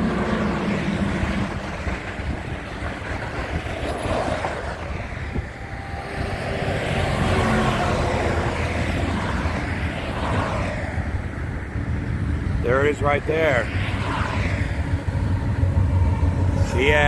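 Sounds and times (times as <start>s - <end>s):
road traffic passing: 0.0s - 17.0s
truck passing: 0.0s - 17.0s.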